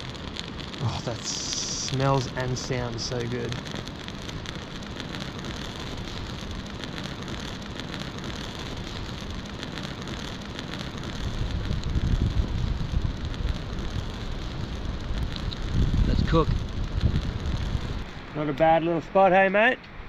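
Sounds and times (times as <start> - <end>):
low rumble: 0.0 - 18.7
campfire crackling: 0.0 - 19.7.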